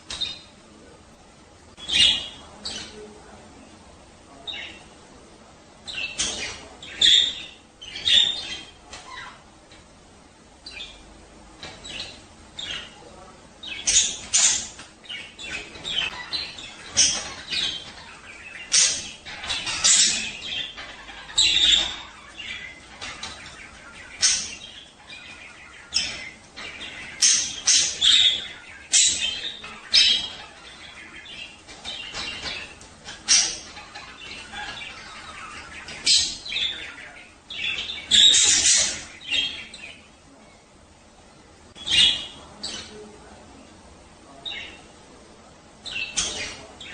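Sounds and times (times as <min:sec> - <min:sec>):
budgerigars chattering and warbling: 0:00.0 - 0:01.0, 0:01.8 - 0:03.6, 0:04.3 - 0:05.0, 0:05.8 - 0:09.6, 0:10.6 - 0:40.3, 0:41.7 - 0:46.9.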